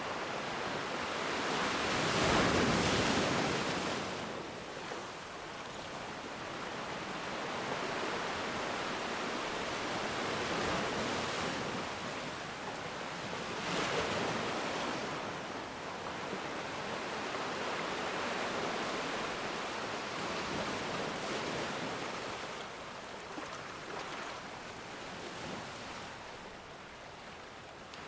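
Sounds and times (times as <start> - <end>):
ocean waves on shore: 0.0 - 28.0.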